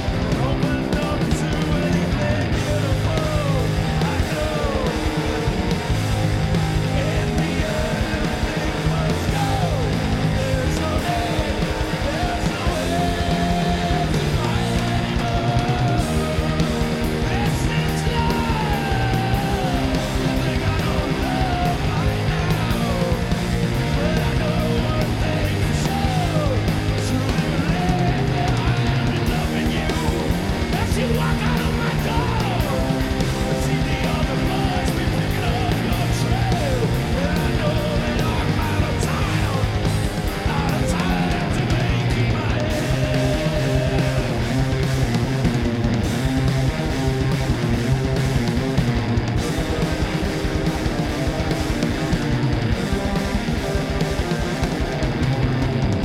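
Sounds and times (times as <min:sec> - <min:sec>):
man singing lead vocal: 0:00.0 - 0:45.4
drums: 0:00.0 - 0:56.0
electric guitar: 0:00.0 - 0:56.0.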